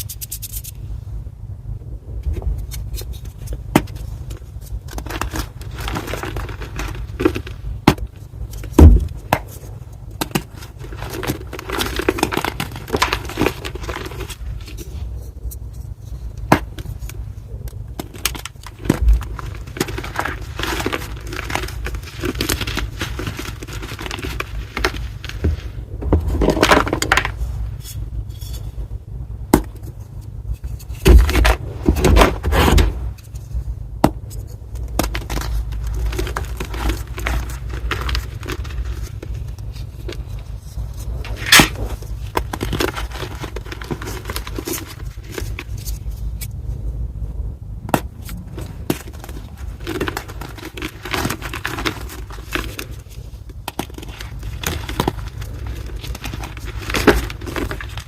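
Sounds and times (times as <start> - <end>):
chalk block crunching: 2.4 - 28.8, 29.5 - 46.6, 47.9 - 58.0.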